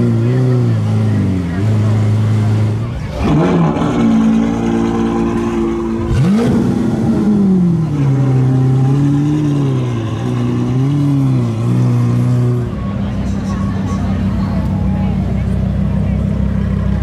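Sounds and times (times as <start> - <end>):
supercar engine revving: 0.0 - 17.0.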